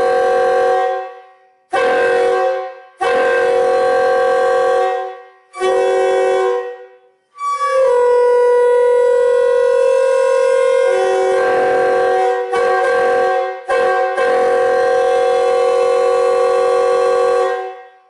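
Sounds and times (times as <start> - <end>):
train air horn chord: 0.0 - 18.0.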